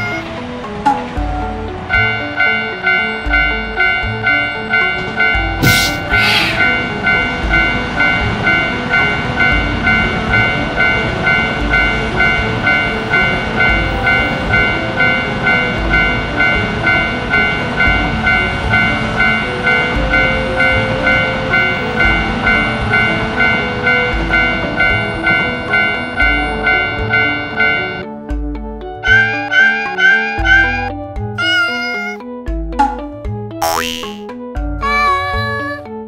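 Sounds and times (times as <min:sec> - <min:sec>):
high-speed train passing: 0:00.0 - 0:28.1, 0:29.0 - 0:32.2
low rhythmic rumble: 0:00.0 - 0:29.0
railroad crossing bell ringing: 0:01.9 - 0:28.0, 0:29.0 - 0:32.2.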